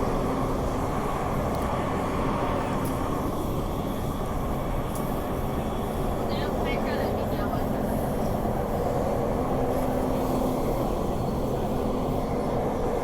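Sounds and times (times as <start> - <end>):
electric train running in tunnel: 0.0 - 13.0.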